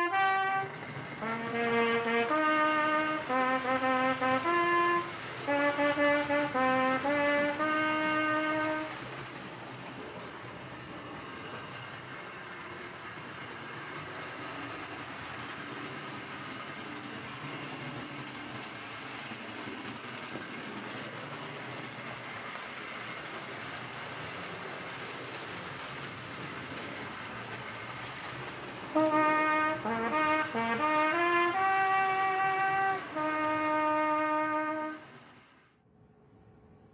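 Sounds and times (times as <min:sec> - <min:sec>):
model train motor whirring: 0:00.0 - 0:35.6
wheels rumbling on rails: 0:00.0 - 0:35.8.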